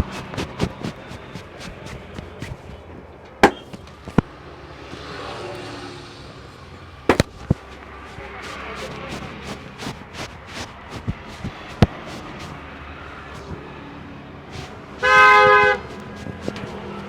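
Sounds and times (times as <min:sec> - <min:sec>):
low street background: 0:00.0 - 0:17.0.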